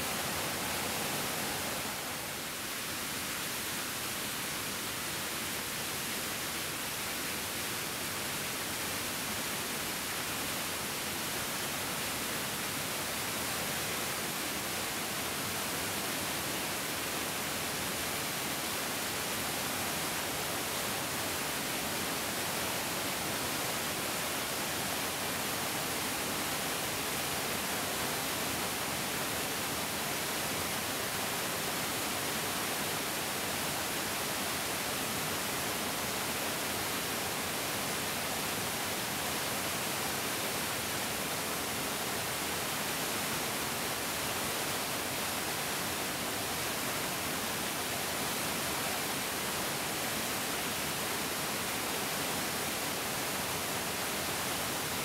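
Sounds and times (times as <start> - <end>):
stream rushing water: 0.0 - 55.0.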